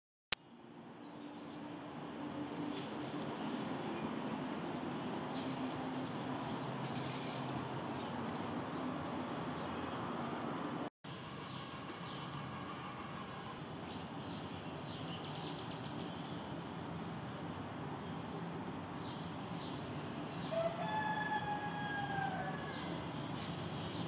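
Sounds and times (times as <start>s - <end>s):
small birds chirping: 0.3s - 13.0s, 13.8s - 20.7s.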